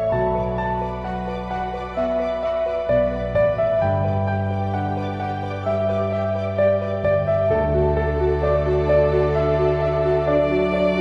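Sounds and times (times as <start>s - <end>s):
slow soft instrumental music: 0.0s - 11.0s.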